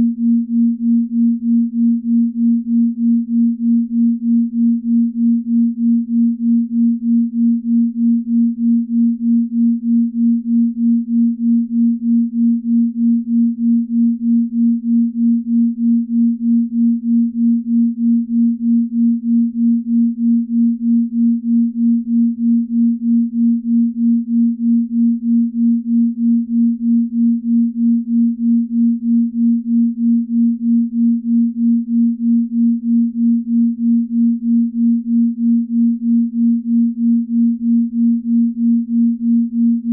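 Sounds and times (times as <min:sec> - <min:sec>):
pulsing low tone: 0:00.0 - 0:39.9.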